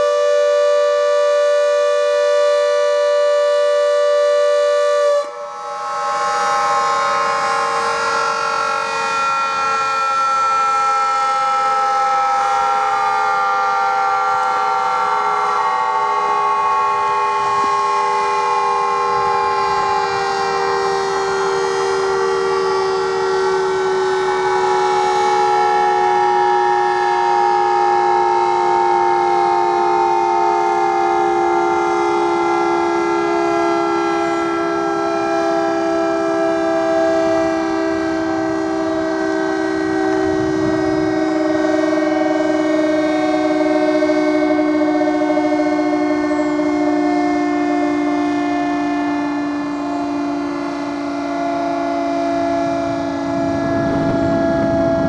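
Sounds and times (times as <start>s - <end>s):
warning siren two-note chord: 0.0s - 55.0s.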